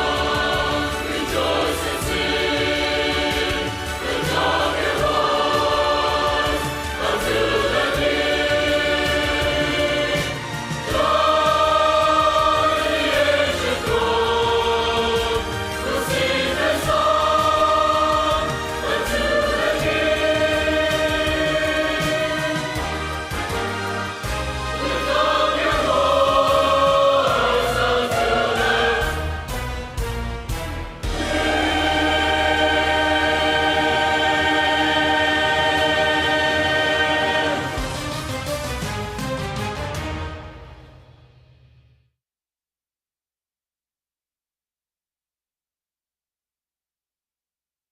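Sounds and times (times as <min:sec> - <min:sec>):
choir singing held chords: 0:00.0 - 0:38.8.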